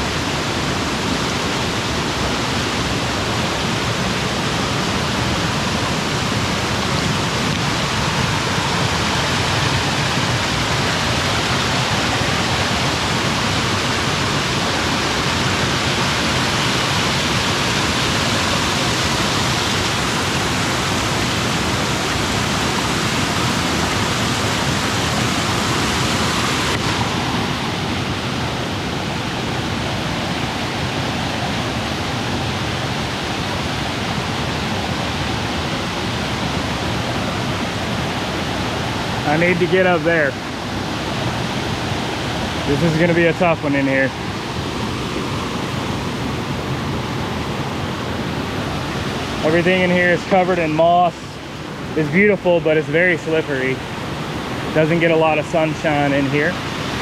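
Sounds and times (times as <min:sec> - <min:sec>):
water rushing over waterfalls: 0:00.0 - 0:57.0.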